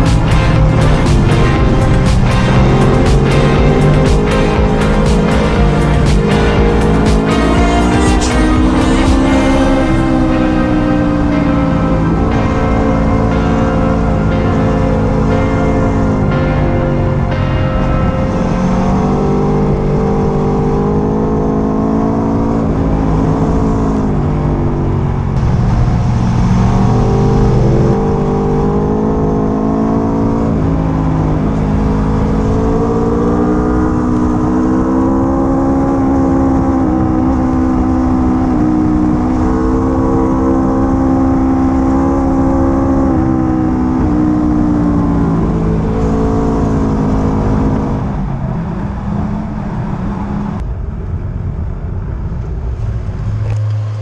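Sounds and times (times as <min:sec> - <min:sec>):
motorcycle engine accelerating: 0:00.0 - 0:54.0
road and wind noise: 0:00.0 - 0:54.0.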